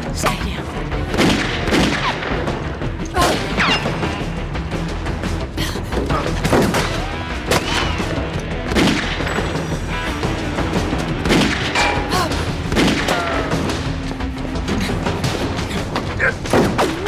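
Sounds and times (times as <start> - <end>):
dramatic action music: 0.0 - 17.0.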